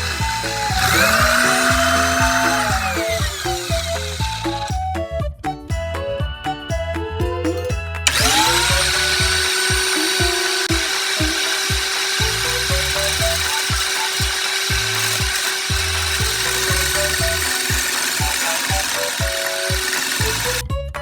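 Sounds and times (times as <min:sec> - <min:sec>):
drill driver motor spinning: 0:00.0 - 0:04.8, 0:08.1 - 0:20.6
background music with beat: 0:00.0 - 0:21.0.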